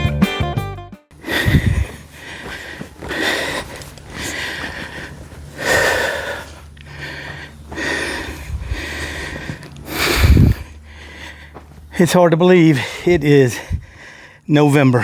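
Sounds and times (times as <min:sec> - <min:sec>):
man breathing hard: 0:01.2 - 0:12.0, 0:12.6 - 0:14.5.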